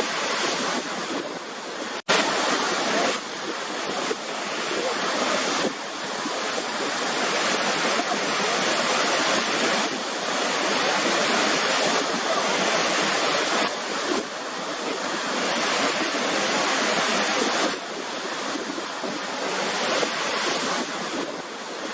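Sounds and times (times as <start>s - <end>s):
waterfall crashing: 0.0s - 21.9s.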